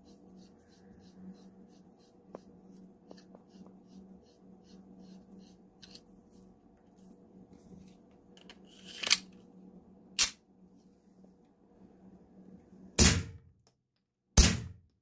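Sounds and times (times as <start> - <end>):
low steady hum: 0.0 - 13.4.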